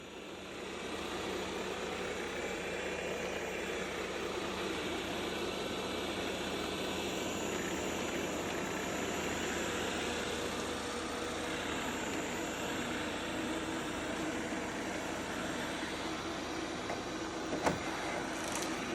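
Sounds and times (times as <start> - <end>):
robot vacuum cleaner whirring: 0.2 - 18.9.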